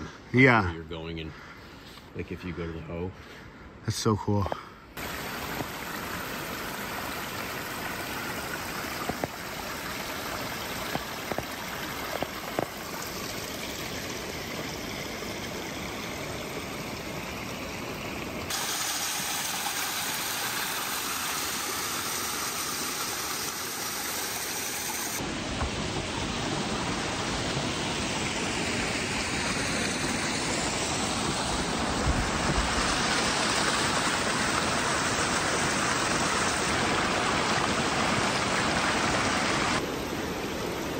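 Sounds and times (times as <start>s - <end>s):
stream splashing over rocks: 5.0s - 40.9s.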